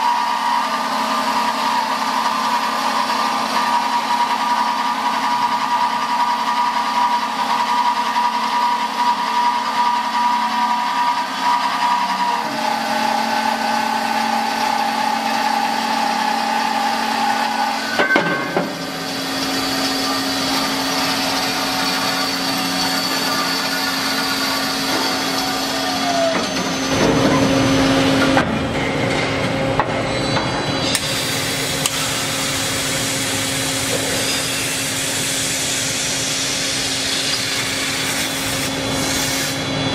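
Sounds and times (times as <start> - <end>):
drill boring steel: 0.0 - 27.0, 30.7 - 39.9
band saw cutting steel: 0.0 - 28.4, 30.0 - 39.9.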